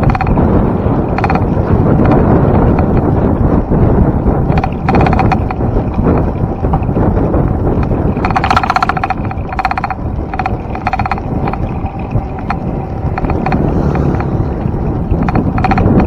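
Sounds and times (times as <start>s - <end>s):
bicycle freewheel ticking: 0.0s - 16.0s
wind on microphone: 0.0s - 16.0s.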